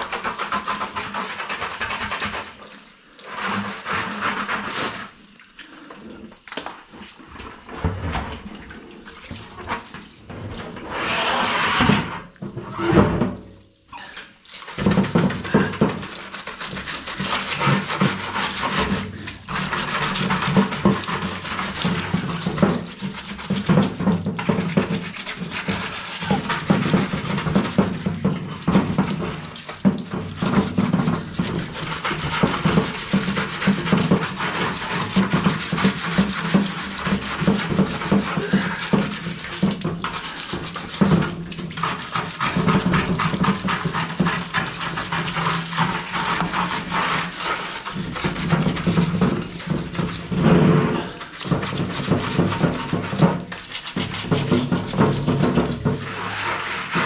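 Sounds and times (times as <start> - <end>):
brush scrubbing: 0.0 - 8.2, 9.1 - 57.0
water running from a tap: 0.0 - 10.9, 12.2 - 57.0.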